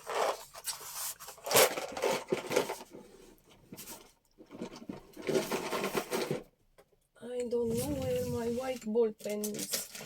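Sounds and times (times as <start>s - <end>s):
objects rubbing and knocking: 0.0s - 6.5s, 7.6s - 10.0s.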